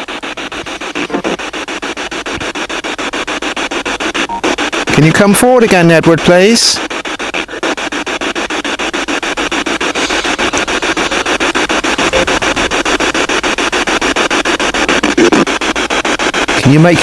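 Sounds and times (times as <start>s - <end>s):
pulsing radio static: 0.0s - 17.0s.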